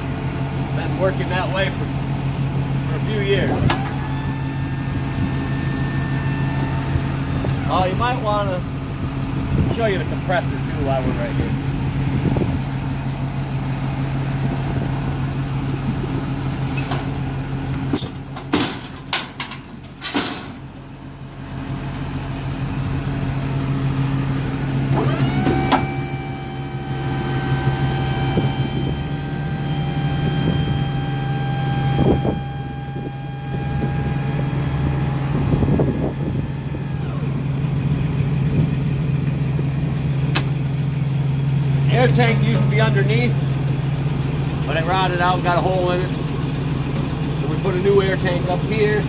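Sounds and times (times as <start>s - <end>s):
mechanical whine: 0.0s - 19.1s, 21.4s - 49.0s
truck engine idling: 0.0s - 49.0s.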